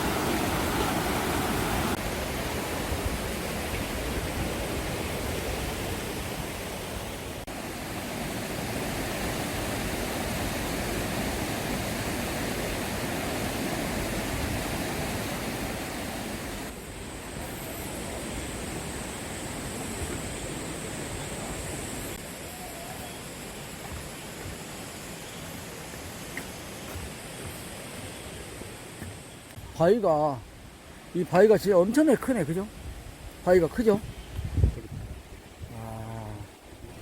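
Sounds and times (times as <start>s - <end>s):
faint high hiss: 0.0s - 37.0s
stream rushing over boulders: 0.0s - 37.0s.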